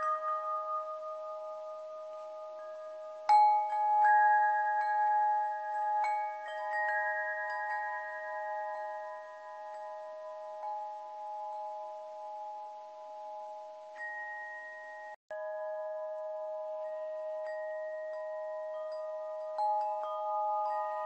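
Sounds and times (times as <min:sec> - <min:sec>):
chimes ringing: 0:00.0 - 0:21.0.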